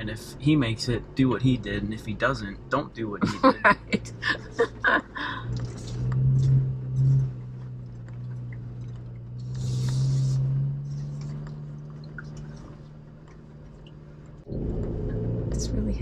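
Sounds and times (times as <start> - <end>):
engine running low inside cab: 0.0 - 16.0.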